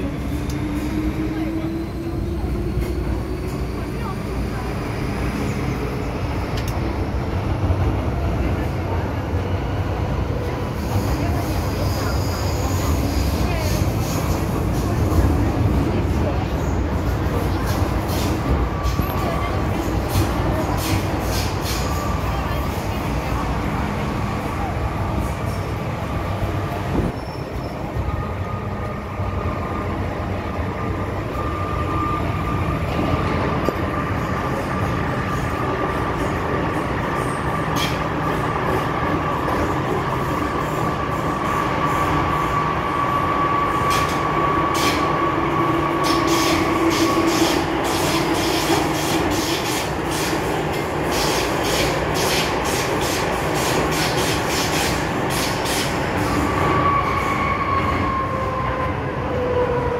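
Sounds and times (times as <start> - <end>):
train high whine: 0.0 - 59.9
train wheels rumbling on track: 0.0 - 59.9.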